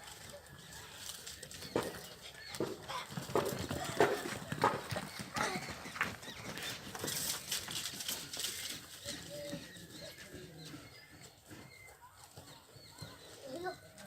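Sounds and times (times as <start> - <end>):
farmyard animals: 0.0 - 14.0.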